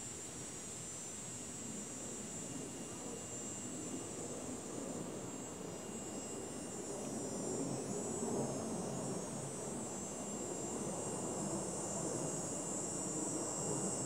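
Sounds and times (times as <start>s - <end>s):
insect drone: 0.0s - 14.0s.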